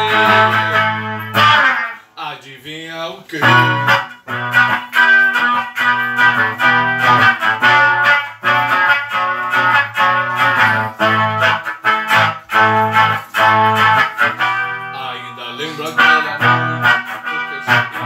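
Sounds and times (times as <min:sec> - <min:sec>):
electric guitar strumming chords: 0:00.0 - 0:02.0, 0:03.4 - 0:18.0.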